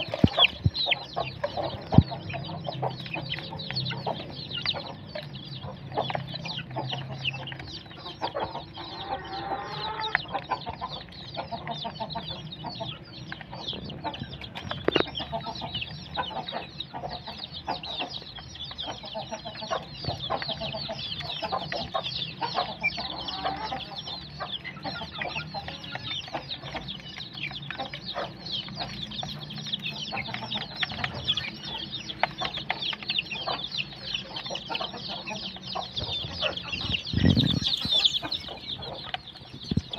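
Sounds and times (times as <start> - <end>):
beaks pecking plastic dish: 0.0 - 39.9
chicks peeping: 0.0 - 39.9.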